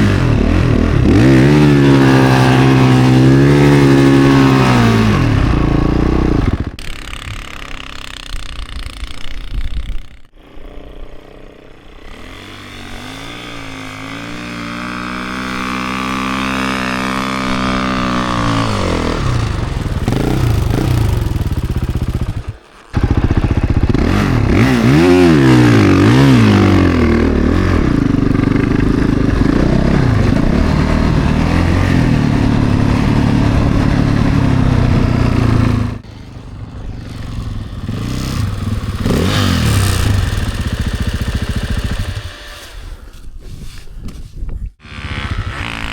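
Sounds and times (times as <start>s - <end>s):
snowbike engine revving: 0.0s - 43.4s, 44.8s - 45.9s.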